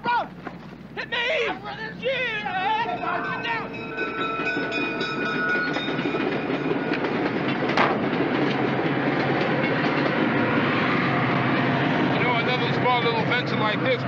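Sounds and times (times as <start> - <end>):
train wheels rumbling and clattering: 1.8 - 14.0.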